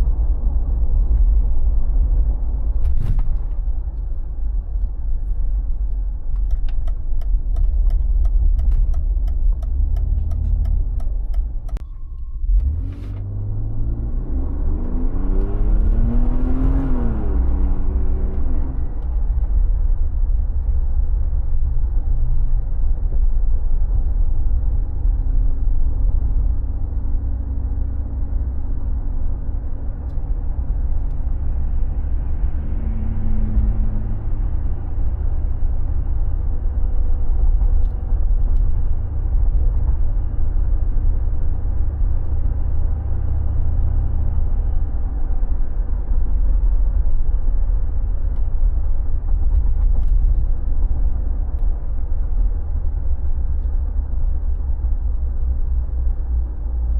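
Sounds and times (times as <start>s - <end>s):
road noise: 0.0s - 56.9s.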